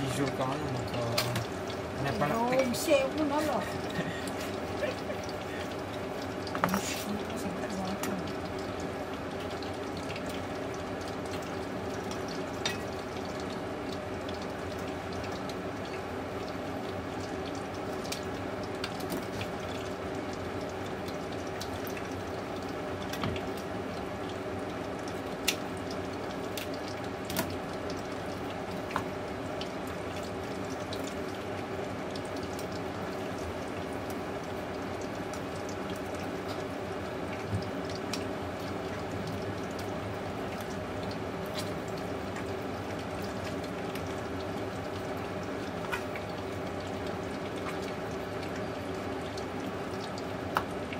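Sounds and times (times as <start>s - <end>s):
steady background hum: 0.0s - 50.9s.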